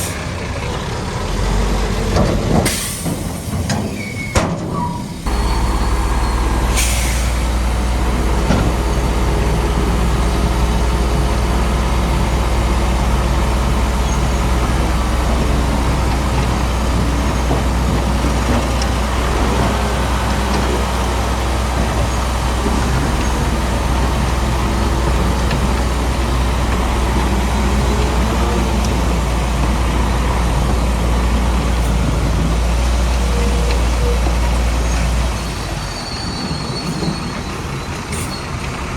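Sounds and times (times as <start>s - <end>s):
heavy diesel machinery droning: 0.0s - 38.9s.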